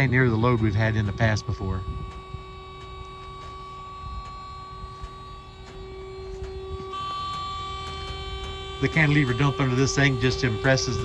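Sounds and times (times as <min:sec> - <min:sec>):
hydraulic pump whining hum: 0:00.0 - 0:11.0.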